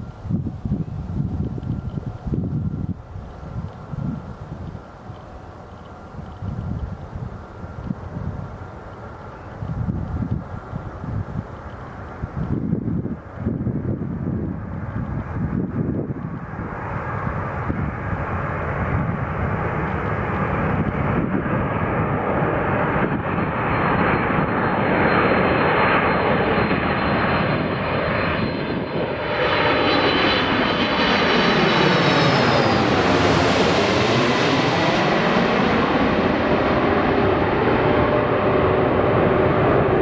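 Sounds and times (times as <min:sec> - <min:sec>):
jet airliner passing overhead: 0:00.0 - 0:40.0.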